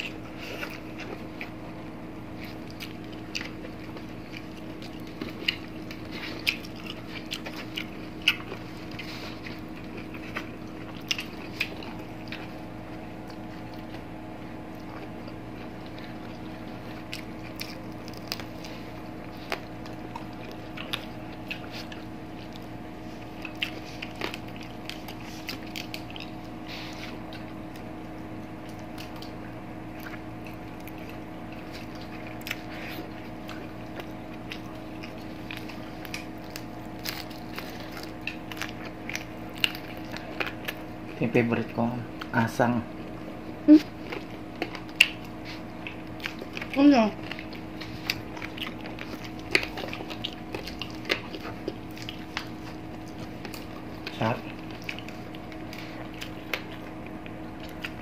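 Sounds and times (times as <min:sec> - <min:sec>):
people chewing fried fish: 0:00.0 - 0:58.0
steady low hum: 0:00.0 - 0:58.0.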